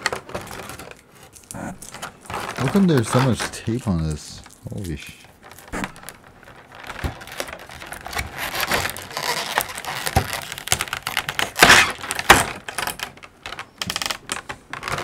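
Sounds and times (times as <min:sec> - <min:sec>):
loud tape tears: 0:00.0 - 0:13.2
packing tape crackling and ripping: 0:00.0 - 0:15.0.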